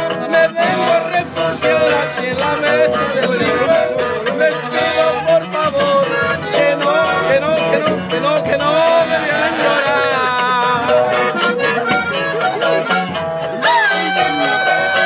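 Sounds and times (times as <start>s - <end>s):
man singing: 0.0s - 15.0s
reedy instrumental accompaniment: 0.0s - 15.0s.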